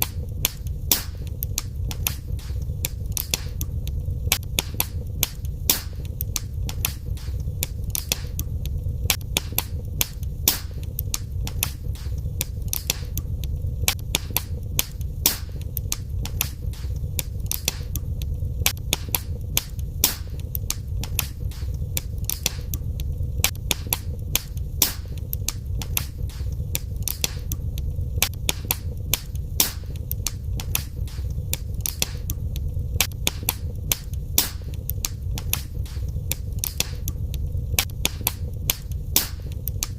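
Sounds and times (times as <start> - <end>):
low rumble of burning fire: 0.0 - 39.9
wood fire crackling: 0.0 - 39.9.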